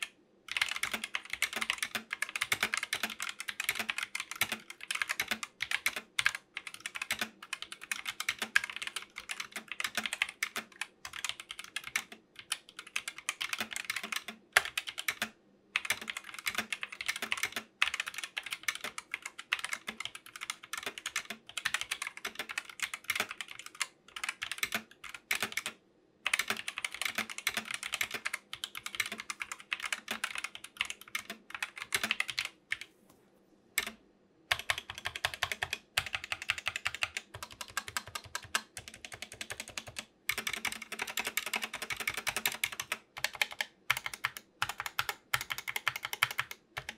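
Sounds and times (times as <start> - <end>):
mechanical keyboard typing: 0.0 - 32.9, 33.8 - 46.9.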